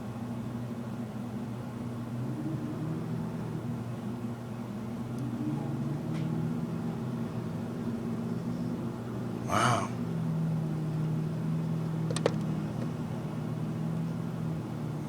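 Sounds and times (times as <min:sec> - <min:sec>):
vehicle engines humming: 0:01.8 - 0:15.0.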